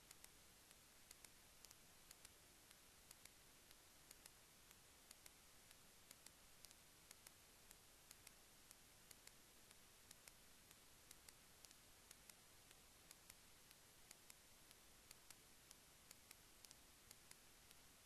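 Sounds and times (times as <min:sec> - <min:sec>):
faint hiss: 0:00.0 - 0:18.0
soft ticks: 0:00.0 - 0:18.0.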